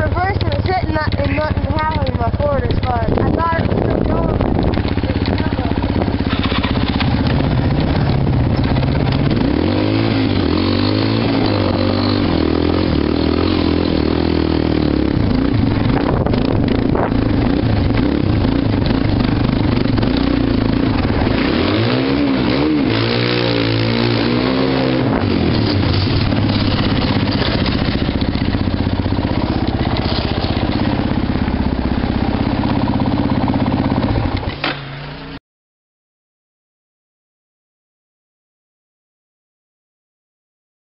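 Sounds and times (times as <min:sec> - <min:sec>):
quad engine idling and revving: 0:00.0 - 0:35.4.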